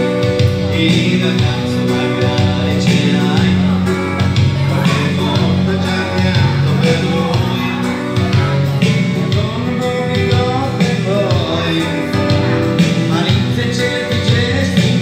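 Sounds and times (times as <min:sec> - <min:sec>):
man singing karaoke: 0:00.0 - 0:15.0
recorded backing track: 0:00.0 - 0:15.0.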